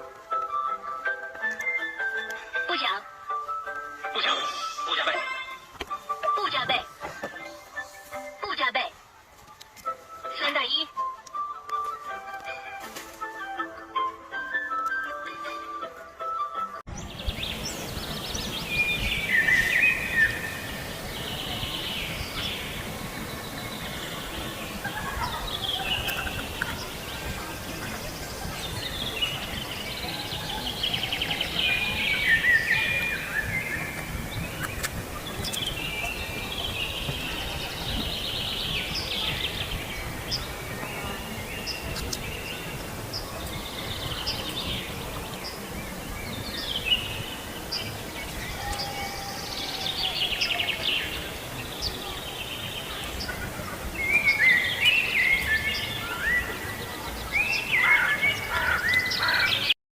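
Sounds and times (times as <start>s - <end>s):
outdoor background noise: 0.0s - 59.8s
birds chirping and calling: 1.1s - 9.0s, 16.9s - 59.8s.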